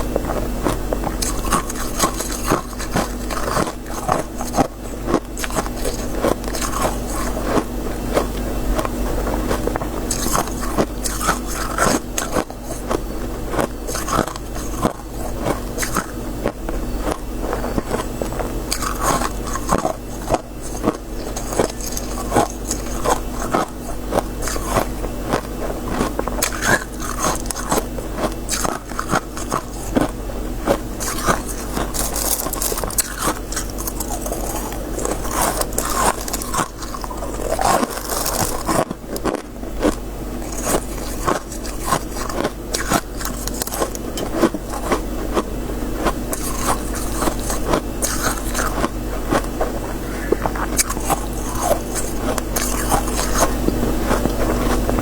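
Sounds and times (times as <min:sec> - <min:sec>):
frost being chewed crunching: 0:00.0 - 0:55.0
steady low hum: 0:00.0 - 0:55.0.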